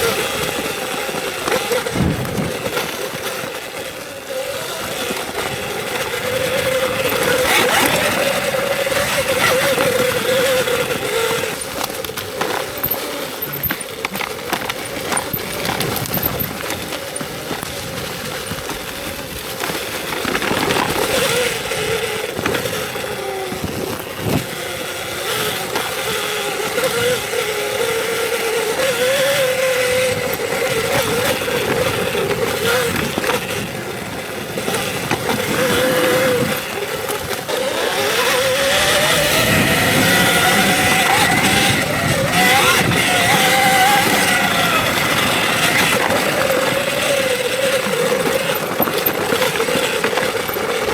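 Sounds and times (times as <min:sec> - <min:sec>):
electric motor whining: 0:00.0 - 0:50.9
tyre noise: 0:00.0 - 0:50.9
wind: 0:00.0 - 0:50.9.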